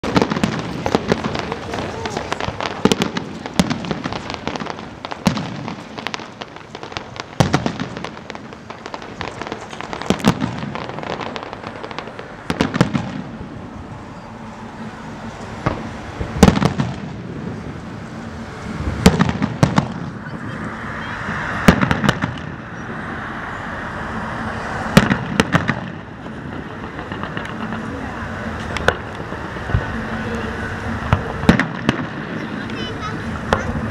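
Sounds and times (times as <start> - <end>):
fireworks bangs: 0.0 - 33.9
fireworks crackling and popping: 0.0 - 33.9.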